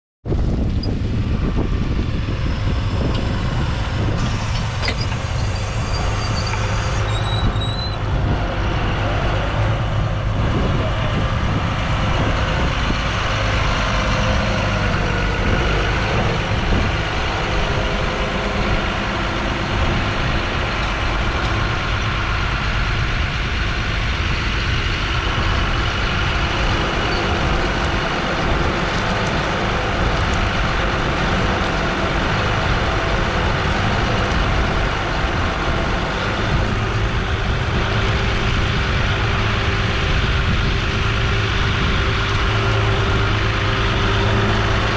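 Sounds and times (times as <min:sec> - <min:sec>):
tractor diesel engine running: 0:00.3 - 0:44.9.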